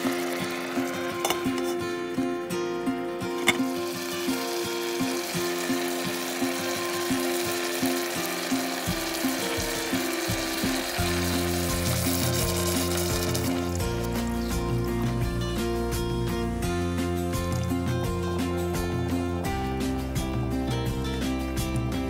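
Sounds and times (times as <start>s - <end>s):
tomatoes sizzling in a pot: 0.0s - 21.7s
light background music: 0.0s - 22.0s.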